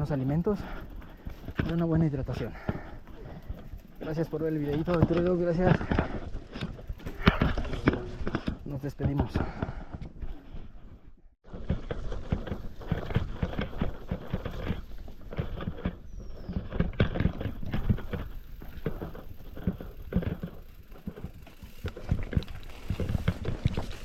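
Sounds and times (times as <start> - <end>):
bike rattling over rocky trail: 0.0 - 24.0.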